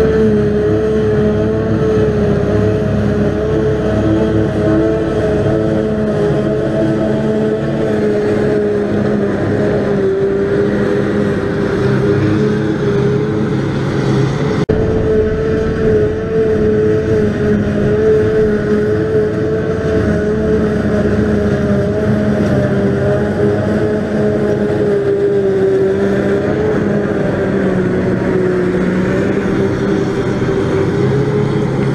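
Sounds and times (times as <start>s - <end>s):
forage harvester engine drone: 0.0s - 31.9s
harvester high whine: 0.0s - 31.9s.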